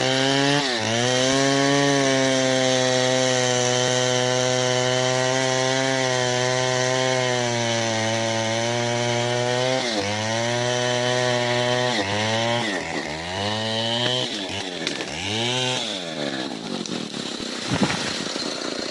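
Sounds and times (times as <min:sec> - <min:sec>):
chainsaw cutting wood: 0:00.0 - 0:18.9.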